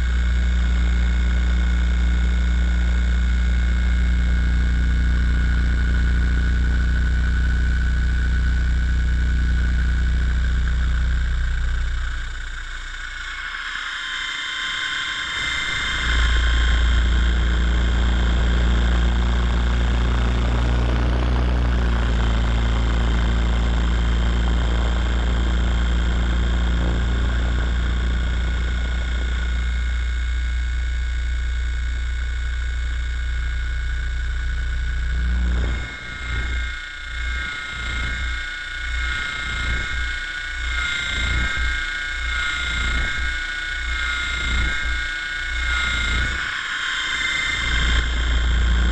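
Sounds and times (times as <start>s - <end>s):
high whine: 0.0s - 48.9s.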